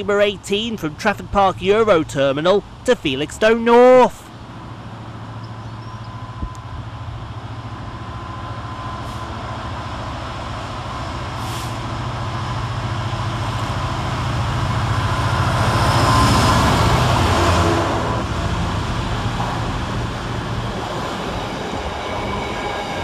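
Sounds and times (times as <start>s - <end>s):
diesel locomotive engine running: 0.0s - 23.0s.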